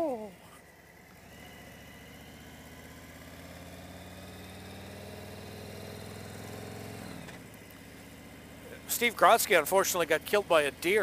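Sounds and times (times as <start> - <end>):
motorcycle engine running: 0.0 - 11.0
wind and road noise: 0.6 - 11.0.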